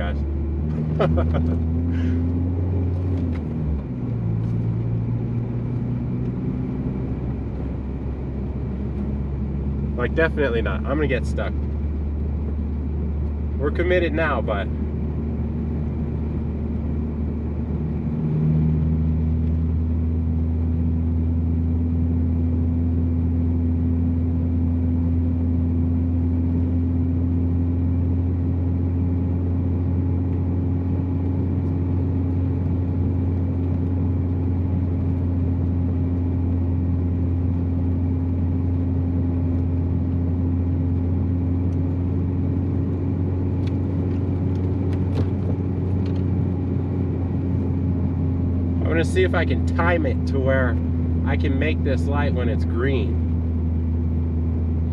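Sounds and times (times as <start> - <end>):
car engine and road noise drone: 0.0 - 54.9.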